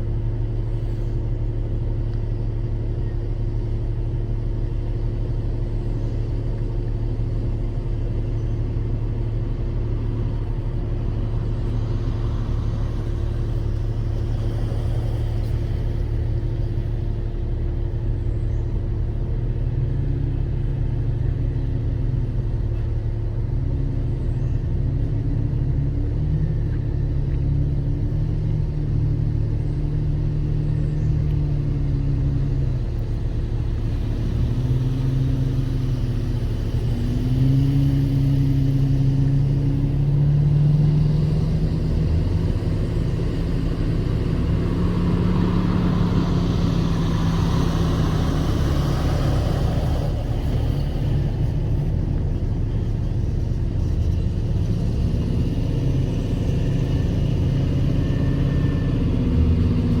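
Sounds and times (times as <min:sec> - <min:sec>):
vehicle engine at low revs: 0:00.0 - 1:00.0.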